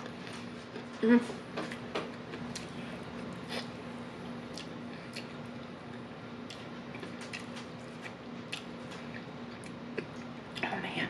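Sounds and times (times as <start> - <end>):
person chewing: 0.0 - 10.7.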